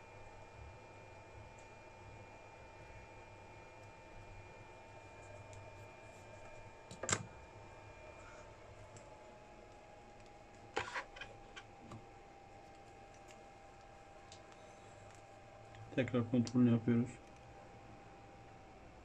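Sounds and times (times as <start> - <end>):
faint steady high whine: 0.0 - 19.0.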